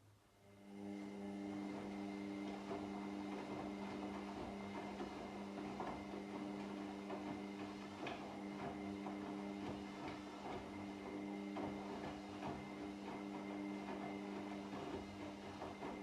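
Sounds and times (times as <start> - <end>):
washing machine motor hum: 0.4 - 16.0.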